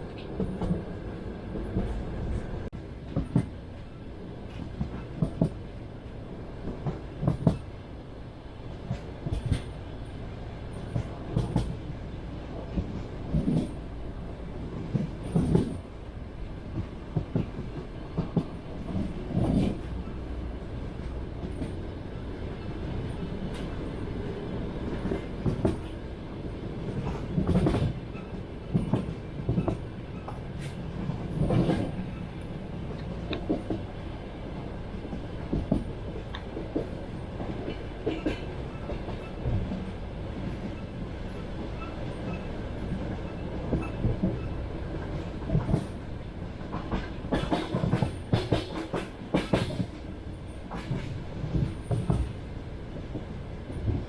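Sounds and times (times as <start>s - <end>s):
rumble of moving carriage: 0.0s - 54.0s
train wheels clacking on rail joints: 1.5s - 3.9s, 4.5s - 5.7s, 6.6s - 7.7s, 8.7s - 12.0s, 12.6s - 13.9s, 14.7s - 15.9s, 16.7s - 21.9s, 24.8s - 54.0s.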